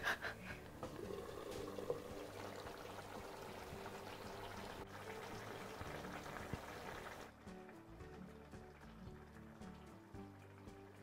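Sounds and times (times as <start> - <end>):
curry bubbling in a pan: 0.9 - 11.0.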